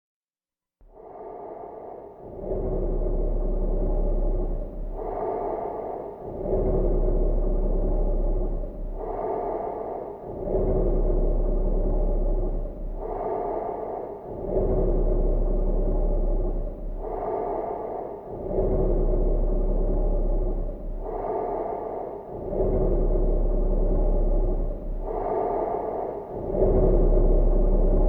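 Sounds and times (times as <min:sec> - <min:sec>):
deep processed breathing: 0:00.8 - 0:28.0.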